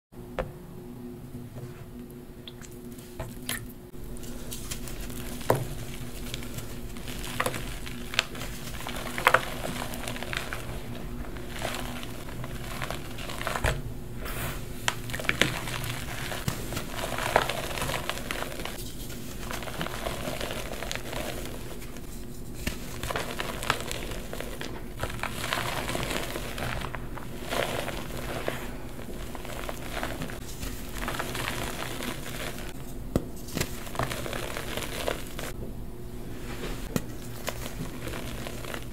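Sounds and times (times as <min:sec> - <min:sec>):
chalk crunching and crumbling: 0:03.9 - 0:35.6, 0:36.4 - 0:38.9.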